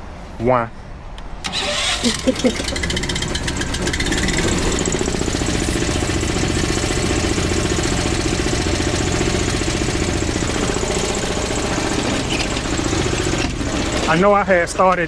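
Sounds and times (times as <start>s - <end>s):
engine idling: 1.5s - 15.0s.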